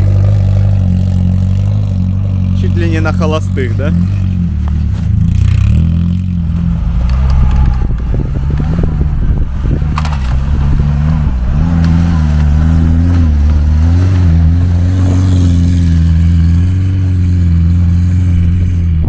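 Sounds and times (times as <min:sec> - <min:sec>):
off-road vehicle engine idling: 0:00.0 - 0:19.0.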